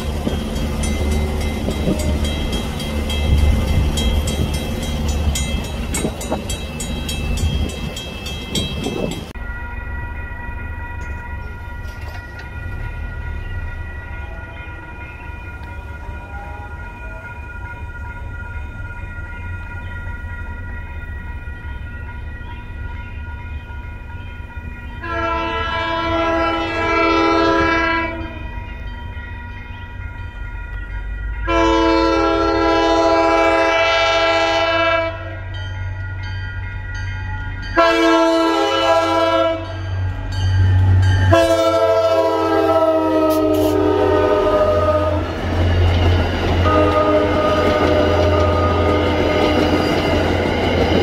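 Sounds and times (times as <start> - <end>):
train chime horn: 0.0 - 45.8, 46.6 - 50.2
crossing signal bell ringing: 0.0 - 51.0
locomotive engine rumble: 0.0 - 51.0.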